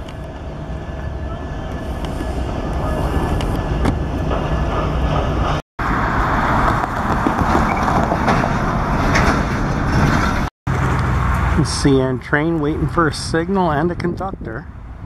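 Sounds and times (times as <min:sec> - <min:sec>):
freight train rolling by: 0:00.0 - 0:14.0
engines and road traffic rumble: 0:00.0 - 0:15.0.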